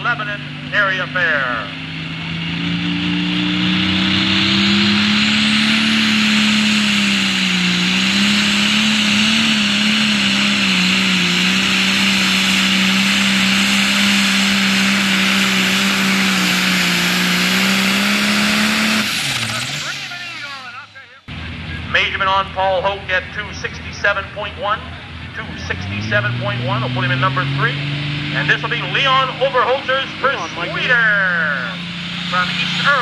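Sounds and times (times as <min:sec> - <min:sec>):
diesel tractor engine drone: 0:00.0 - 0:33.0.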